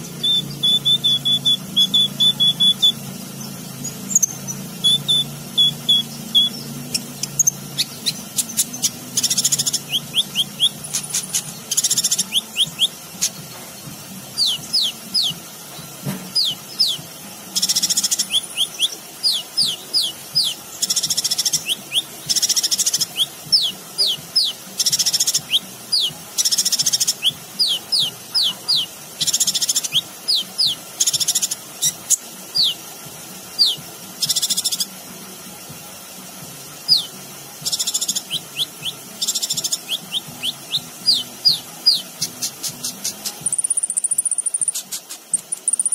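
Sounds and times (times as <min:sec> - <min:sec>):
bird singing high whistles: 0:00.0 - 0:13.4, 0:14.4 - 0:15.4, 0:16.3 - 0:17.0, 0:17.6 - 0:32.8, 0:33.6 - 0:34.9, 0:36.9 - 0:45.9.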